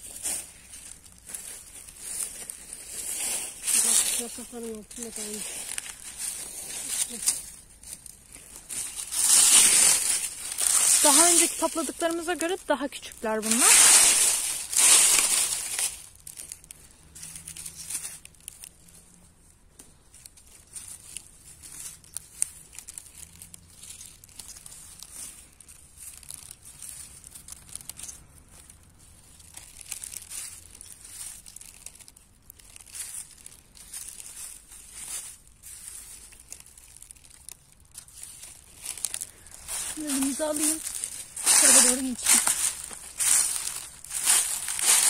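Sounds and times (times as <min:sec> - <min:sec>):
plants tearing: 0:00.0 - 0:18.9, 0:19.8 - 0:45.0
leaves rustling and crinkling: 0:00.0 - 0:45.0.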